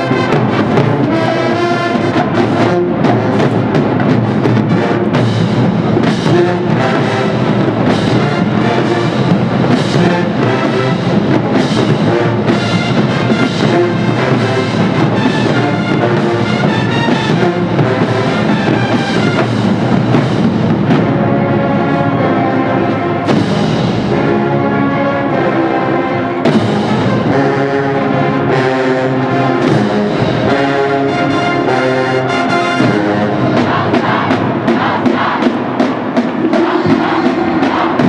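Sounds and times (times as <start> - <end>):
brass section: 0.0 - 38.0
drums: 0.0 - 38.0
marching band playing: 0.0 - 38.0.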